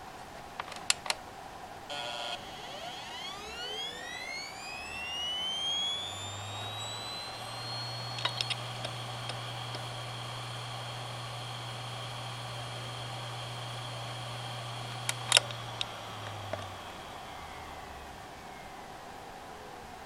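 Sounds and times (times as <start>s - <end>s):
short buzz: 1.9s - 18.0s
hard drive sharp clicks: 1.9s - 18.1s
low hum: 1.9s - 18.4s
hard drive spindle whine: 1.9s - 19.0s.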